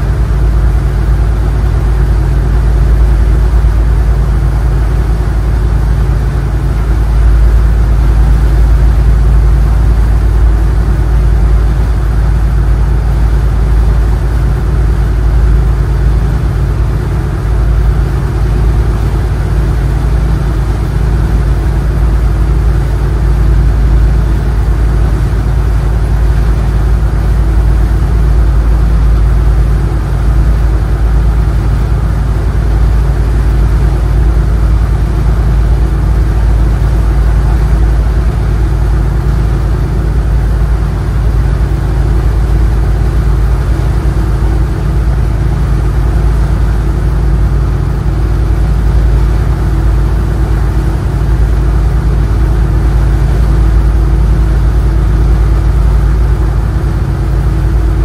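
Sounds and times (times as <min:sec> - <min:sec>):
boat engine idling: 0:00.0 - 0:58.0.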